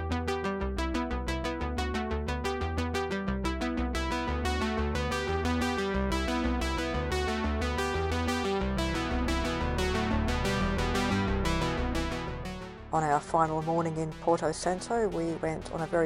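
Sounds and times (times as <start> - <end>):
synthesizer and electric piano music: 0.0 - 16.0.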